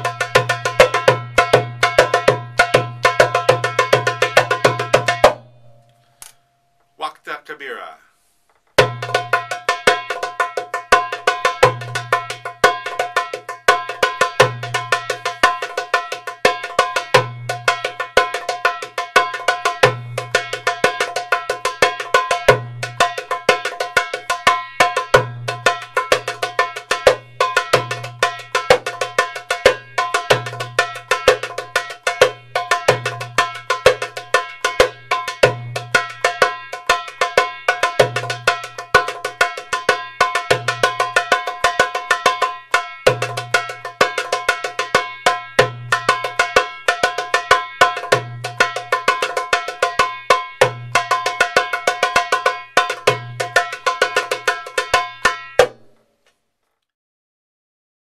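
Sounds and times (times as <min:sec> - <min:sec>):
hand drum rhythm: 0:00.0 - 0:05.8, 0:08.7 - 0:56.0.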